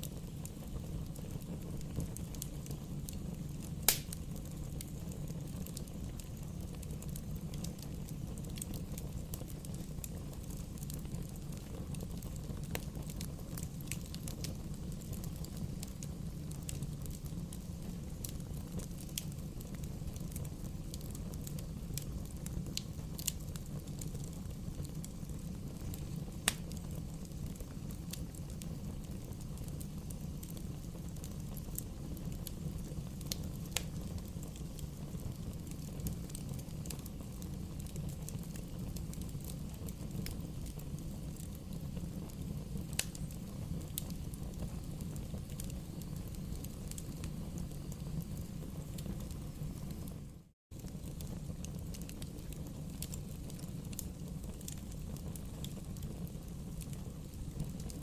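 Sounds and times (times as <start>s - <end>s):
bonfire crackling and popping: 0.0s - 58.0s.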